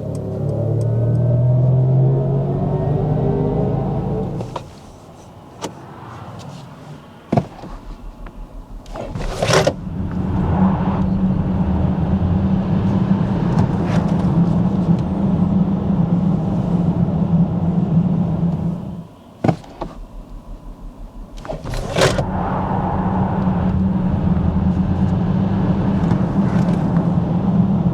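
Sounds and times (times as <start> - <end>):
electric car hum: 0.0 - 27.9
road noise: 0.0 - 27.9.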